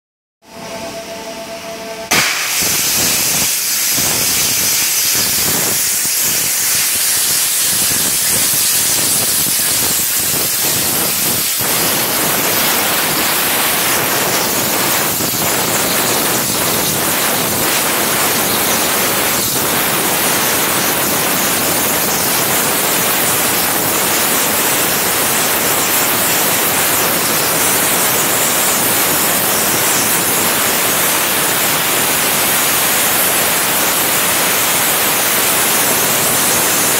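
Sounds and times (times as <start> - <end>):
water spraying and splashing: 2.1 - 36.9
waterjet hissing: 2.1 - 36.9.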